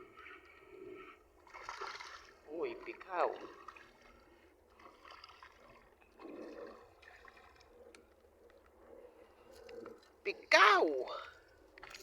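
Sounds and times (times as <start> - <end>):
faint water lapping and trickling: 0.0 - 12.0.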